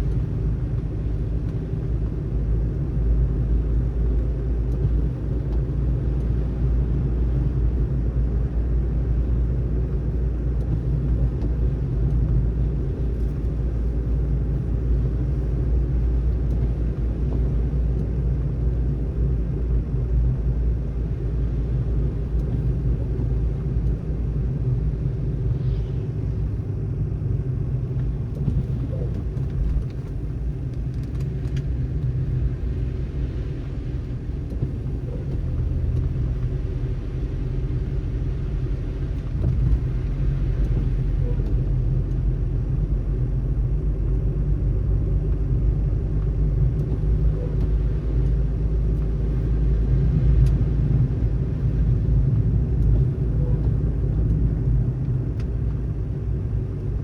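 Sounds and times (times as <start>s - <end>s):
car driving on snowy road: 0.0s - 57.0s.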